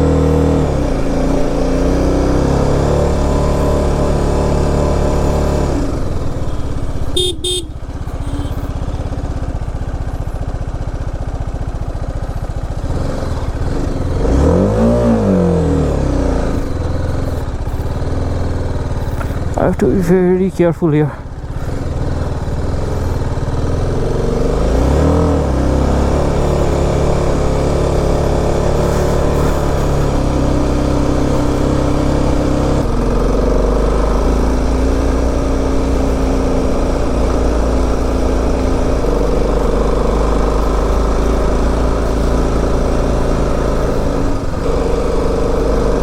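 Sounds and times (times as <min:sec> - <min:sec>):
motorcycle engine under load: 0:00.0 - 0:46.0.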